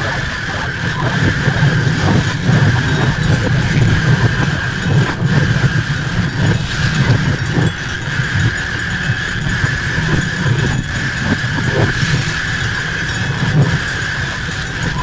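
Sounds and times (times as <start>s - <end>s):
distorted rumbling noise music: 0.0s - 15.0s.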